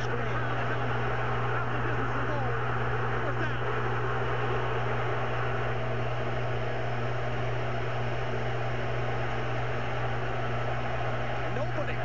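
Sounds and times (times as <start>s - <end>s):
low electrical hum: 0.0s - 12.0s
stadium crowd noise: 0.0s - 12.0s.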